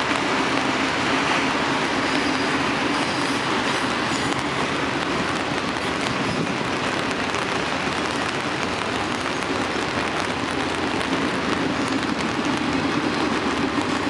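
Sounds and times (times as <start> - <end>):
freight train cars rumbling: 0.0 - 14.0
heavy rain hissing: 0.0 - 14.0.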